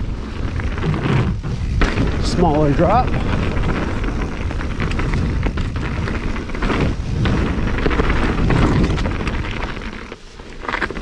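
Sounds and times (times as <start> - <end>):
wind buffeting microphone: 0.0 - 10.1
bike tyres and frame rattling: 0.0 - 11.0.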